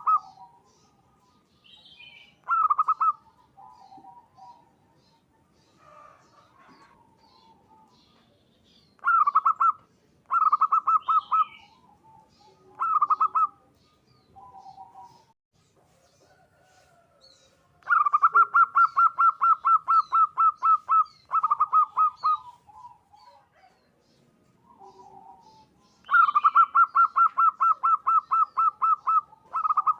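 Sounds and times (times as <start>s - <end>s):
dove cooing: 0.0s - 1.4s, 2.0s - 8.2s, 9.0s - 15.3s, 17.8s - 24.0s, 24.6s - 29.9s
small birds chirping: 0.0s - 29.9s.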